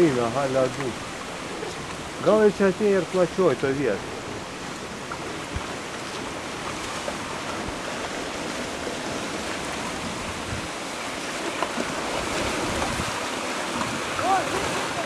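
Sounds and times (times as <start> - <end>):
ice floes and water rushing: 0.0 - 15.0.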